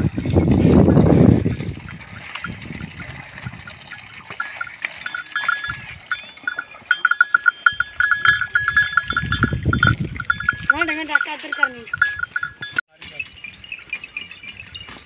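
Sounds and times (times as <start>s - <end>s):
livestock bells jingling: 0.0s - 15.0s.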